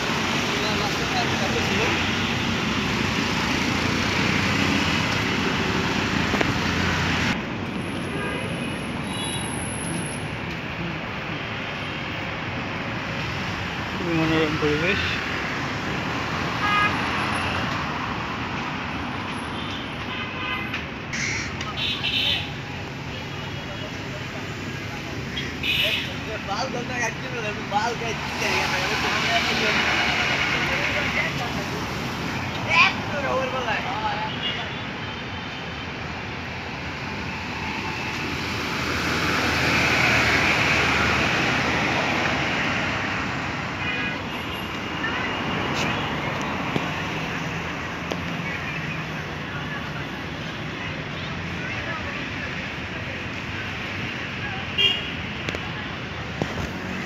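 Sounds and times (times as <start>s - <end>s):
road traffic hum: 0.0s - 57.0s.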